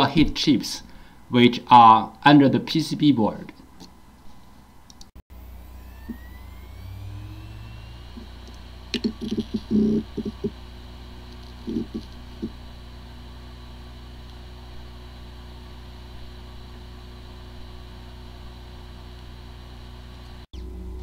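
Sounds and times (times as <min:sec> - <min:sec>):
hard drive spinning hum: 0:03.9 - 0:21.0.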